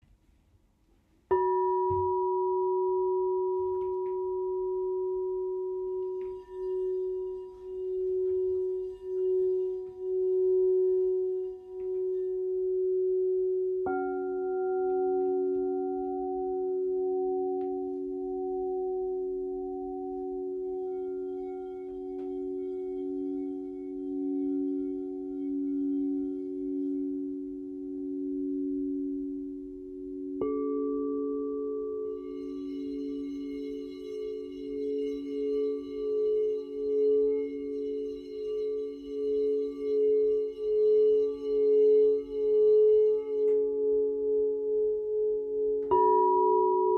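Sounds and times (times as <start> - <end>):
singing bowl ringing: 1.3 - 46.9.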